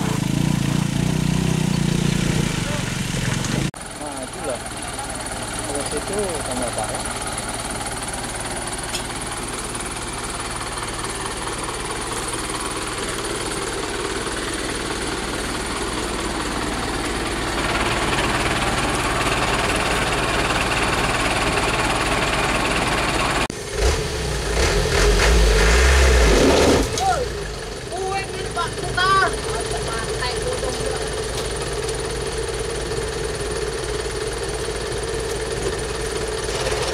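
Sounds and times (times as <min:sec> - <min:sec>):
diesel truck engine running: 0:00.0 - 0:36.9.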